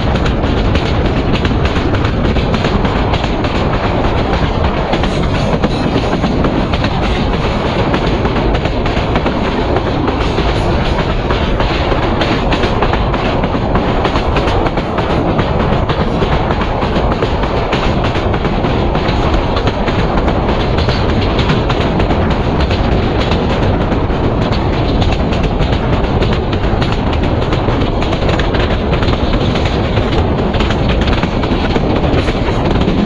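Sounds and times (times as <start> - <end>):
train wheels clattering over rails: 0.0 - 33.0.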